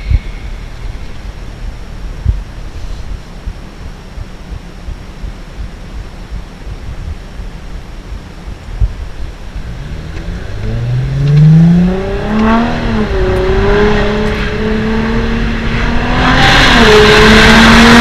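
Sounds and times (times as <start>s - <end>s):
diesel engine accelerating: 0.0s - 18.0s
wind and road rumble: 0.0s - 18.0s.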